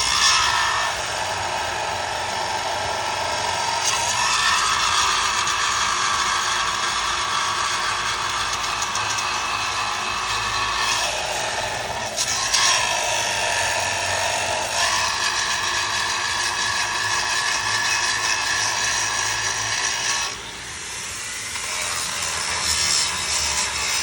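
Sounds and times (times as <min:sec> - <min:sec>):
angle grinder whining on metal: 0:00.0 - 0:24.0.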